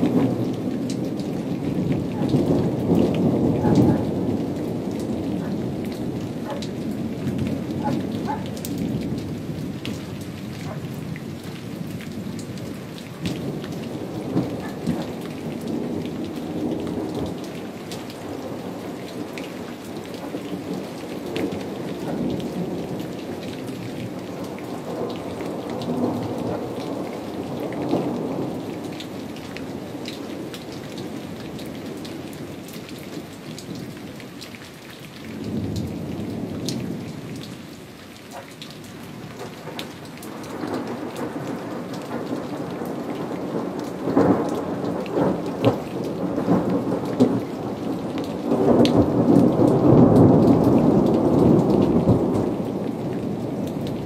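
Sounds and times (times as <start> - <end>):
thunder rumbling: 0.0 - 34.1, 38.9 - 54.0
raindrops ticking: 0.0 - 54.0
steady rain: 0.0 - 54.0.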